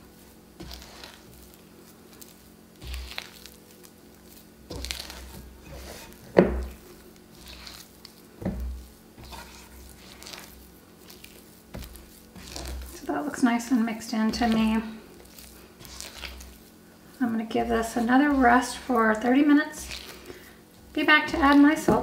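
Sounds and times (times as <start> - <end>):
dough squishing and slapping: 0.0 - 22.0.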